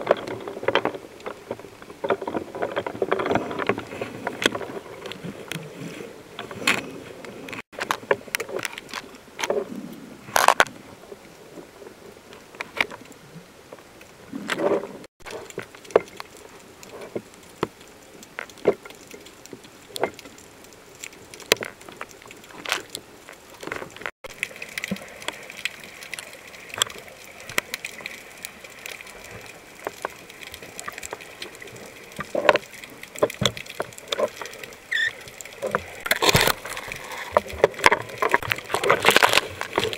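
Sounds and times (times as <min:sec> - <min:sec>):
swirling water: 0:00.0 - 0:39.9
underwater clicks and crackles: 0:00.0 - 0:39.9.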